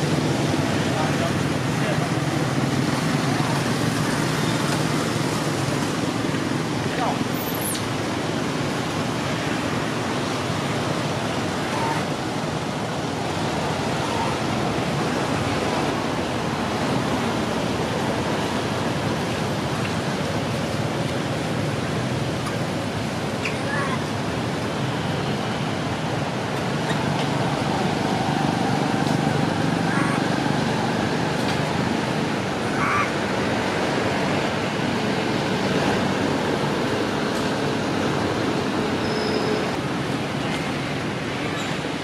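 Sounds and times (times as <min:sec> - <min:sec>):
rushing hiss of outdoor noise: 0:00.0 - 0:42.0.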